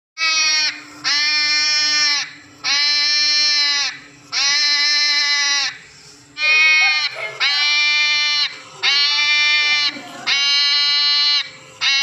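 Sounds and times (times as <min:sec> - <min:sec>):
hedgehog crying: 0:00.2 - 0:12.0.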